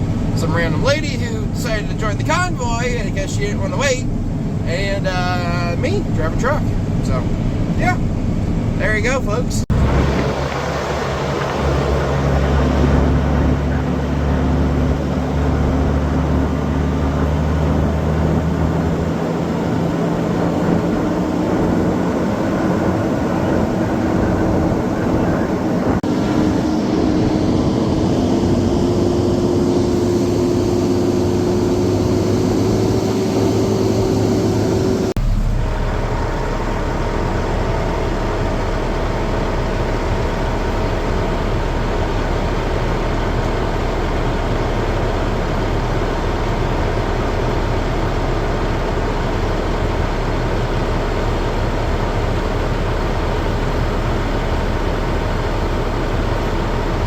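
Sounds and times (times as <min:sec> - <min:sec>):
road noise: 0:00.0 - 0:57.0
steady engine drone: 0:00.0 - 0:57.0
truck engine from inside cab: 0:00.0 - 0:57.0.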